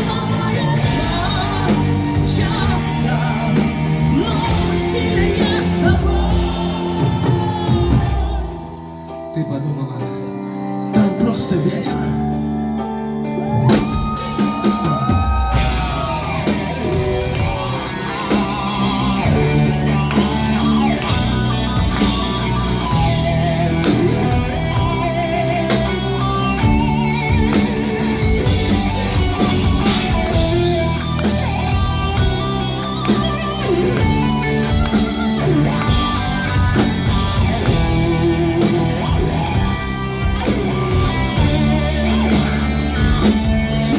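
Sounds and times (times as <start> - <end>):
drum kit beat: 0.0 - 8.9, 13.7 - 43.9
bass guitar: 0.0 - 43.9
electric guitar: 0.0 - 43.9.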